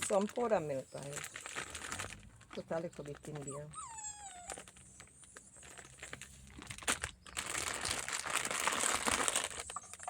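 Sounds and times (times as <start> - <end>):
plastic packet crinkling: 0.0 - 3.5, 4.2 - 10.0.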